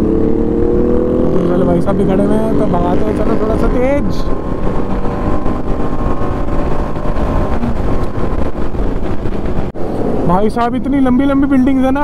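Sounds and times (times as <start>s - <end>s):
motorcycle engine running: 0.0s - 9.8s
wind buffeting microphone: 0.0s - 12.0s.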